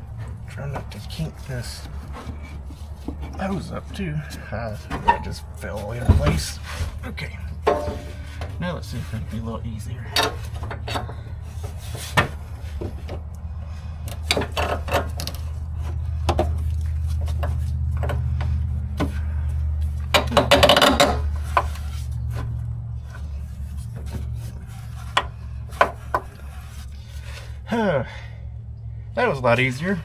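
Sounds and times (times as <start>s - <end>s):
car parts rubbing and scraping: 0.0s - 28.0s
steady low hum: 0.0s - 30.0s.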